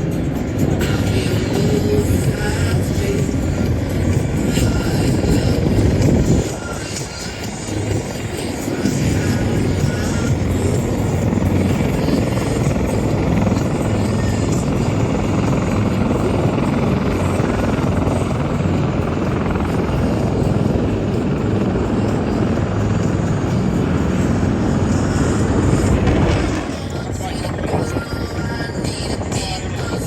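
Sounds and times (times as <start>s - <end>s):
helicopter rotor and engine: 0.0s - 30.0s
low hum: 0.0s - 30.0s.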